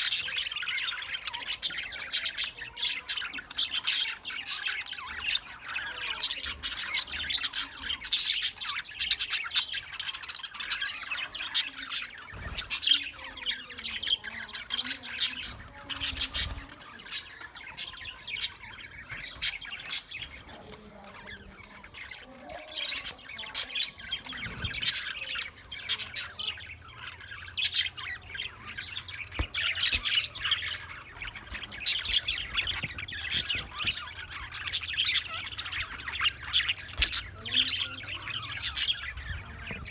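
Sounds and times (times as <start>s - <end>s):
caged birds chattering: 0.0s - 39.9s.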